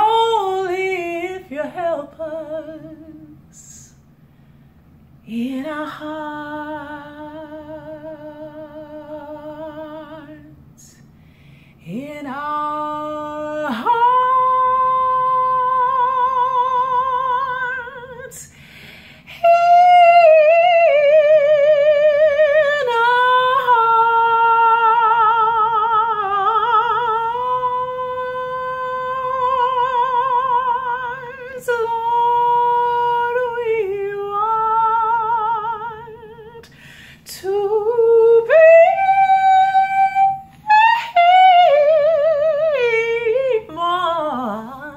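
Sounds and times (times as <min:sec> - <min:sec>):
woman singing unaccompanied: 0:00.0 - 0:04.0, 0:05.2 - 0:11.1, 0:11.8 - 0:18.6, 0:19.3 - 0:44.9.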